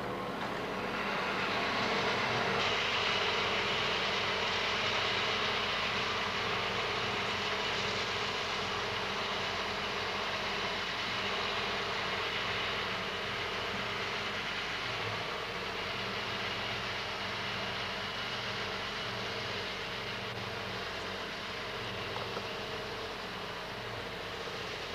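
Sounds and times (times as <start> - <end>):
tractor engine drone: 0.0 - 24.9
forage harvester hiss: 0.8 - 24.9.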